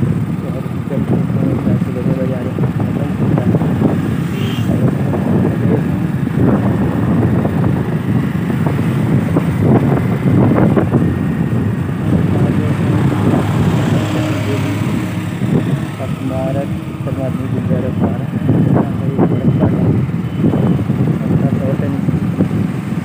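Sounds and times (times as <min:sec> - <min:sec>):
motorcycle engine running: 0:00.0 - 0:23.0
wind rumbling on microphone: 0:00.0 - 0:23.0.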